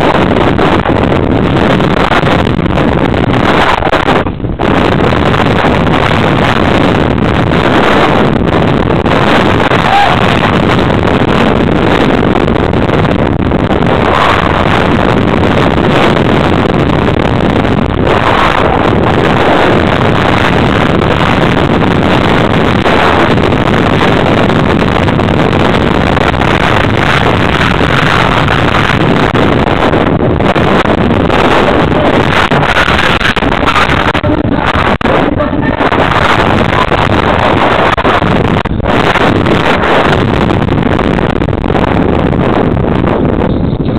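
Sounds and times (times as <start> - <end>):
rolling and rattling noise: 0.0 - 43.9
wind buffeting microphone: 0.0 - 43.9.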